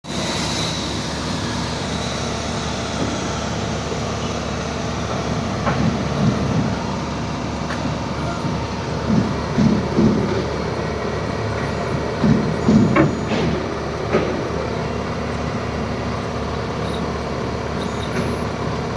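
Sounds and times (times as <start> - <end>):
steady machine hum: 0.1 - 18.9
low uneven rumbles: 2.8 - 18.9.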